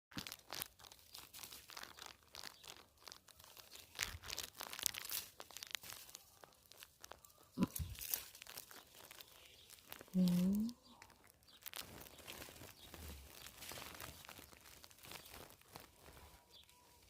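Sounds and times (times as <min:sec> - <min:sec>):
rustling and crackling of bramble leaves: 0:00.1 - 0:17.0.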